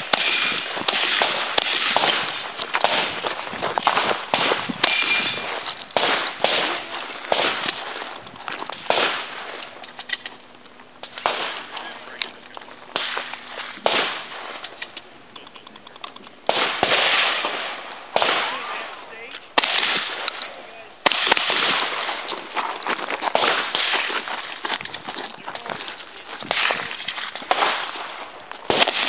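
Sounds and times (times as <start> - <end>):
shotgun shots echoing: 0.0 - 10.3, 11.0 - 15.0, 16.4 - 22.7, 23.3 - 24.6, 25.6 - 29.0.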